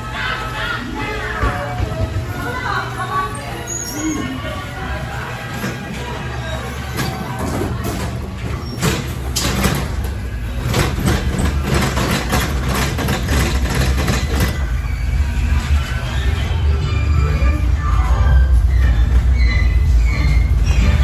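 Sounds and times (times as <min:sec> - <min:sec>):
ride car rumbling on track: 0:00.0 - 0:21.0.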